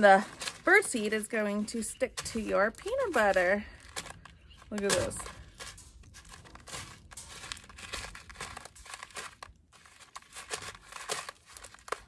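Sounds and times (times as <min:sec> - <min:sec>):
birdseed rustling and scratching: 0:00.0 - 0:12.0.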